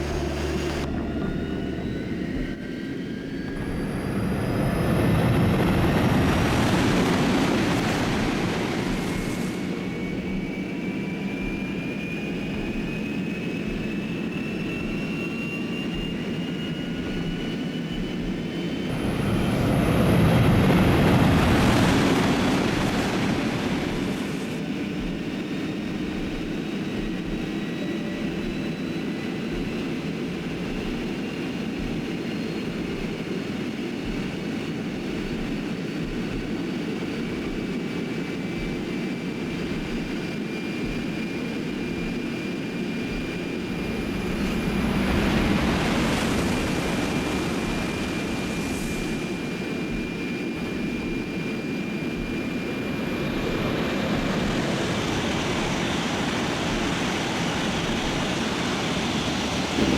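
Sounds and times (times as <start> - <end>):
train rushing with thin whine: 0.0 - 59.9.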